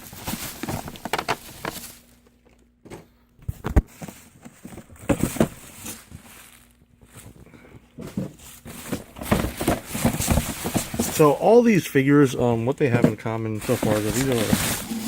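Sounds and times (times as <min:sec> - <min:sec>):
cardboard packaging rustling: 0:00.0 - 0:02.5, 0:03.5 - 0:15.0.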